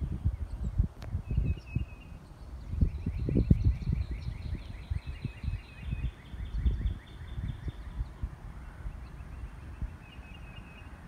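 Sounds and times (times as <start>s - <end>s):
bird chirping: 0.0s - 11.0s
wind buffeting microphone: 0.0s - 11.0s.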